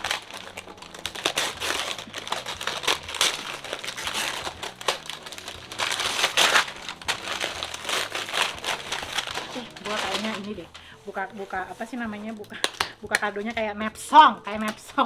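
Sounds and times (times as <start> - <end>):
gift wrapping crinkling: 0.0 - 13.4.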